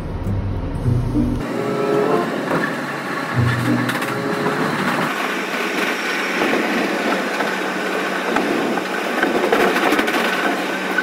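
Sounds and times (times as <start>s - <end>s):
subway train running: 0.0s - 11.0s.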